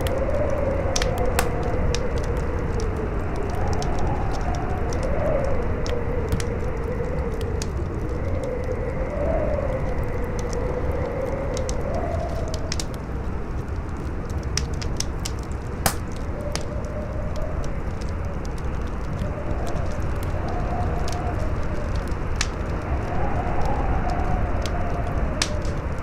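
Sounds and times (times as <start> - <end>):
campfire crackling and popping: 0.0 - 26.0
howling wind: 0.0 - 26.0.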